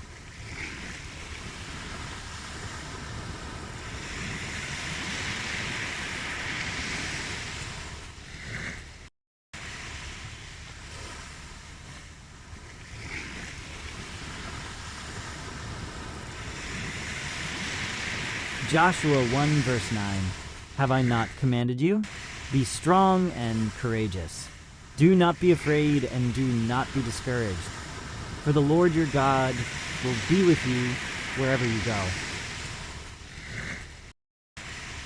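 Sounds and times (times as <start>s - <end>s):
ocean waves breaking on shore: 0.0s - 35.0s.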